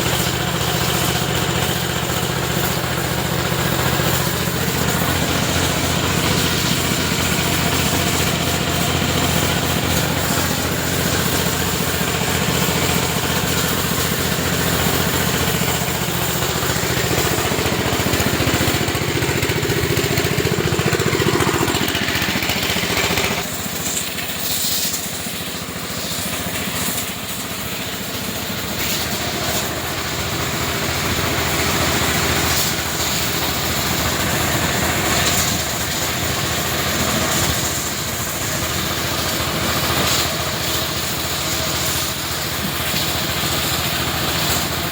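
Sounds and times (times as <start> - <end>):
pressure washer motor humming: 0.0 - 44.9
water jet hissing: 0.0 - 44.9.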